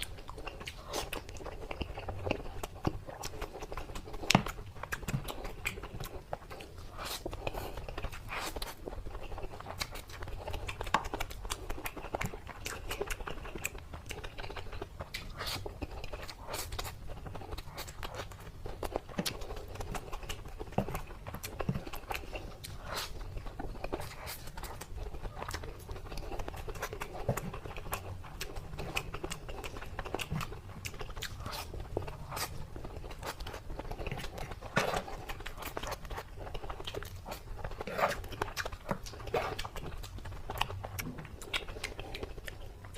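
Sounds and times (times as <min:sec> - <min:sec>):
person chewing crispy food: 0:00.0 - 0:42.9.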